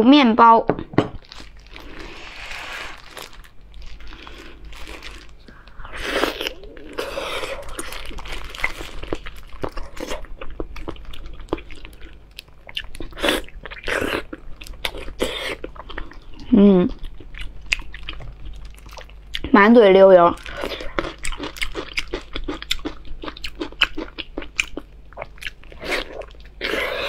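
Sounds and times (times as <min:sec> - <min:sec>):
chewing soft meat: 0:03.3 - 0:19.5, 0:20.4 - 0:27.0.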